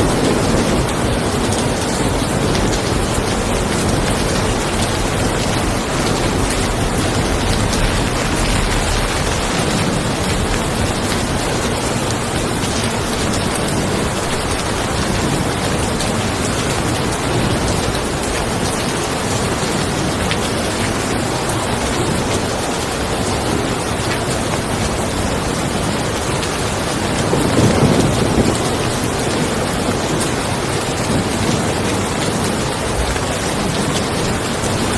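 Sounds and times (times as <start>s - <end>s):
distant thunder rumble: 0.0s - 23.8s, 25.1s - 34.9s
heavy rain on car roof: 0.0s - 34.9s.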